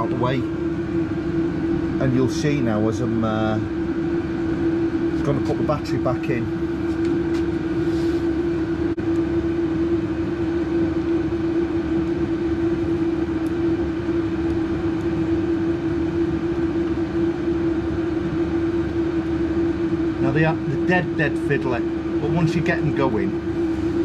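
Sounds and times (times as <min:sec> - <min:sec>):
low rumbling noise: 0:00.0 - 0:24.0
steady mechanical hum: 0:00.0 - 0:24.0.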